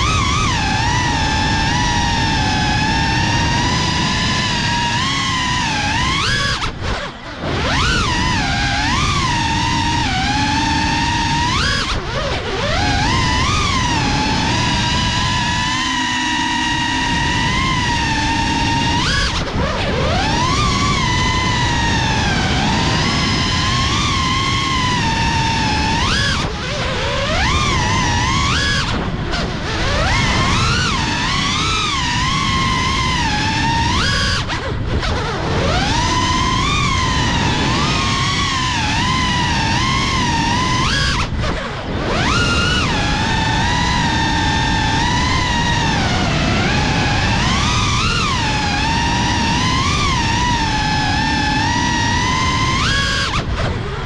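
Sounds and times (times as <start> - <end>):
drone motors whining: 0.0 - 54.0
propeller wash and wind: 0.0 - 54.0.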